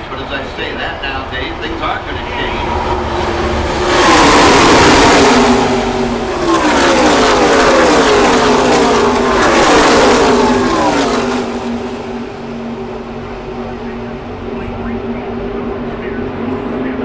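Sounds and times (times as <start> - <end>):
race trucks passing at full speed: 0.0 - 17.0.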